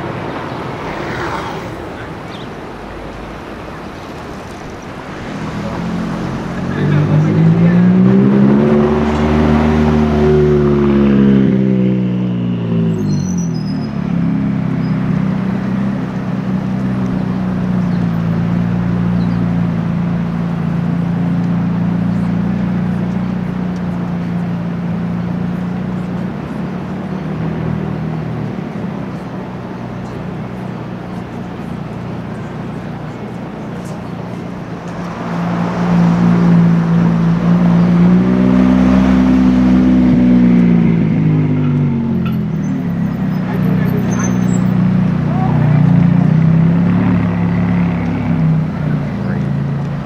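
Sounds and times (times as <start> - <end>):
sports car accelerating past: 0.0 - 50.0
supercars droning in traffic: 0.0 - 50.0.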